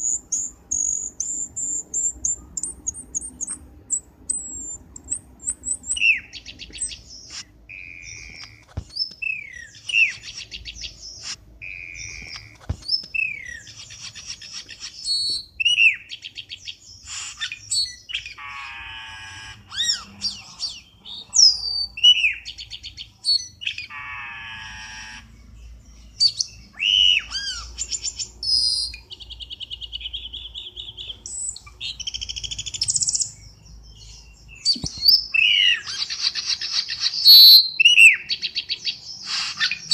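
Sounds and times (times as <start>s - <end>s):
bird calls: 0.0s - 39.9s.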